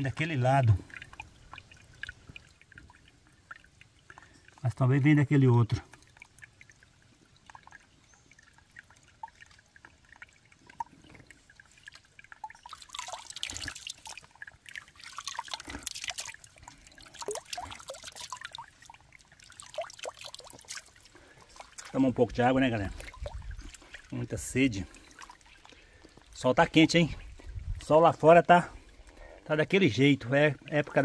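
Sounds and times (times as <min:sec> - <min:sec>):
water splashing: 0:00.0 - 0:31.0
water trickling into a pool: 0:00.0 - 0:31.0.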